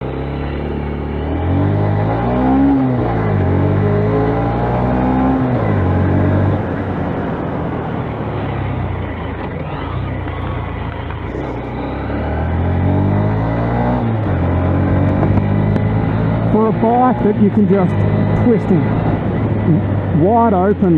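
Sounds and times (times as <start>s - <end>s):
low wavering hum: 0.0s - 20.9s
wind rushing over microphone: 1.2s - 20.9s.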